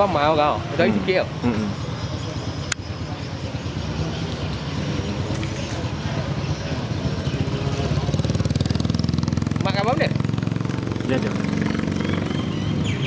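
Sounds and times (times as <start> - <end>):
moped engine running: 1.5 - 13.0.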